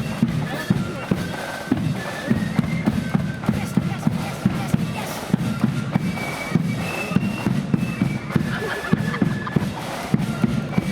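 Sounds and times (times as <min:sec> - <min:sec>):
bass drum and snare beat: 0:00.0 - 0:10.9
high flute melody: 0:00.0 - 0:10.9.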